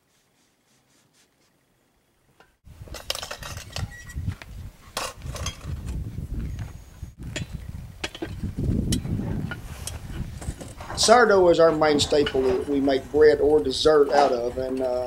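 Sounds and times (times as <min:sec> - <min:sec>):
wind buffeting microphone: 0:02.7 - 0:15.0.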